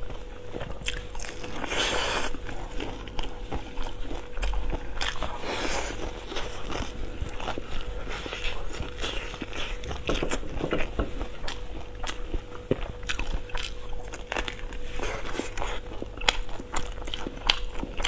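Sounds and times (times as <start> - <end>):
biting and chewing sausage: 0.0 - 18.0.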